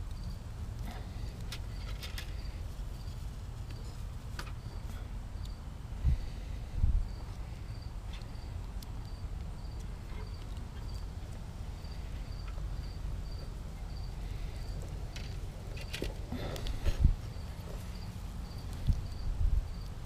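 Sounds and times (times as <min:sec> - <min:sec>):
cricket chirping: 0:00.0 - 0:20.0
steady low rumble: 0:00.0 - 0:20.0.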